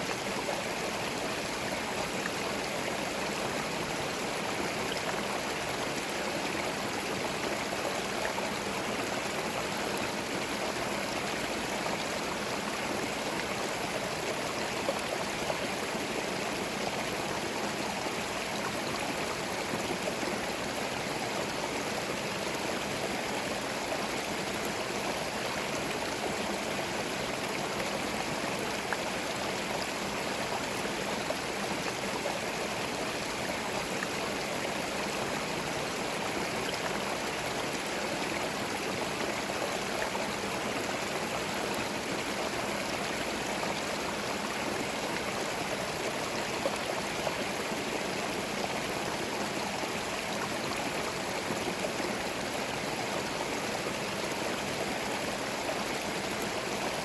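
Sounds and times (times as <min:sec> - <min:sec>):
stream gurgling over stones: 0:00.0 - 0:57.0.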